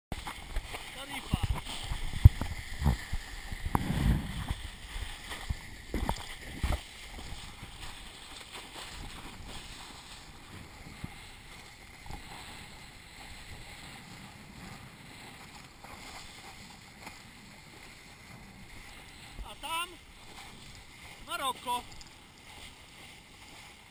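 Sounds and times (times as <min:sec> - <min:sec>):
water splashing and rushing: 0:00.1 - 0:23.9.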